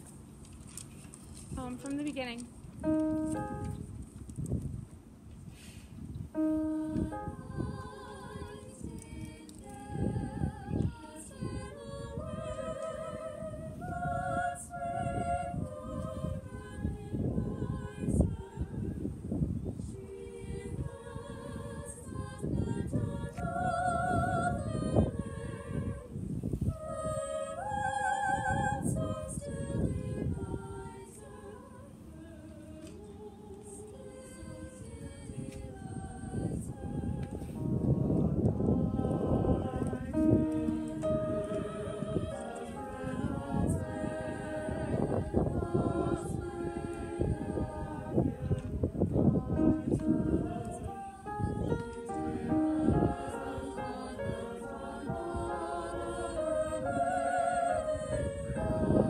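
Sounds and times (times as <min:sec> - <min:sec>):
choir singing: 0:02.8 - 0:03.8, 0:06.4 - 0:59.0.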